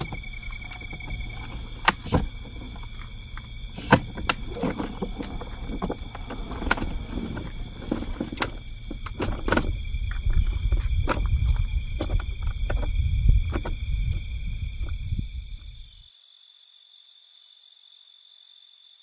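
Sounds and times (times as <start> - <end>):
low outdoor rumble: 0.0 - 15.9.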